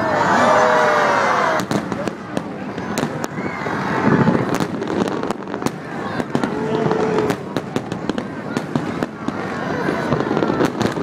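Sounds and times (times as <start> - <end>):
crowd talking: 0.0 - 11.0
fireworks bursting: 1.4 - 11.0.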